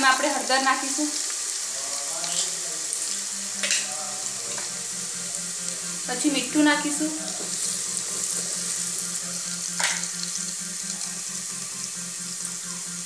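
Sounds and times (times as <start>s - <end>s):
hot oil sizzling in pan: 0.0s - 13.0s.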